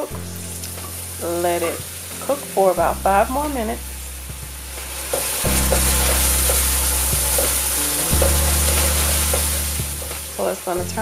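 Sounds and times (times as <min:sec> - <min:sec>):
sauce sizzling and bubbling in a skillet: 0:00.1 - 0:10.8.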